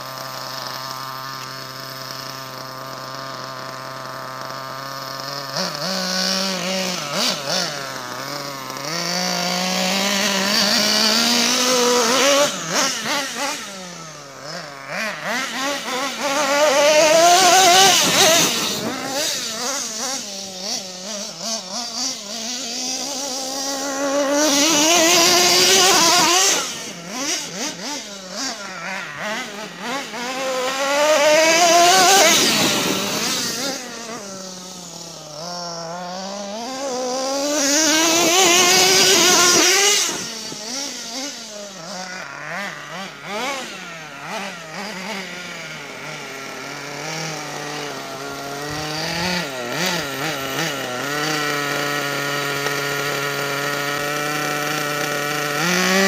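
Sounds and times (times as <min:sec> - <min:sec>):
toy truck engine revving: 0:00.0 - 0:56.0.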